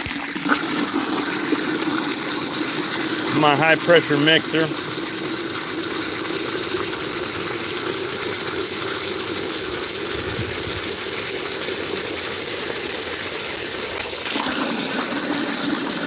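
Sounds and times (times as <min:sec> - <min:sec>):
hose water jet rushing into bucket: 0:00.0 - 0:16.0.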